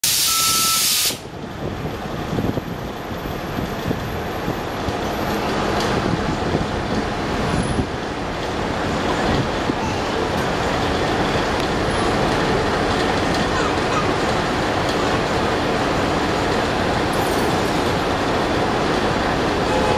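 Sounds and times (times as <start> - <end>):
street traffic: 0.0 - 19.9
bus engine idling: 1.0 - 19.9.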